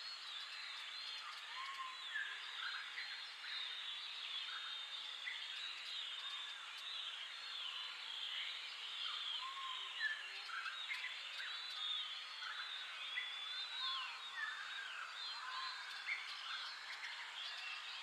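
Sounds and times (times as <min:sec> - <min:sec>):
steady natural ambience hiss: 0:00.0 - 0:18.0.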